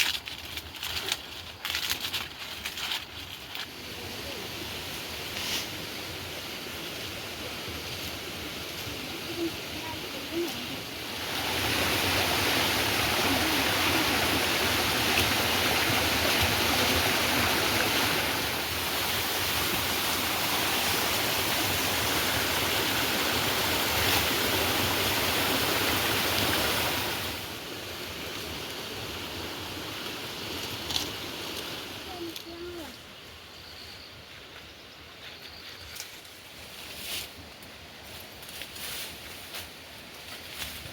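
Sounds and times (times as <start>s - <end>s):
rushing water: 0.0s - 33.4s.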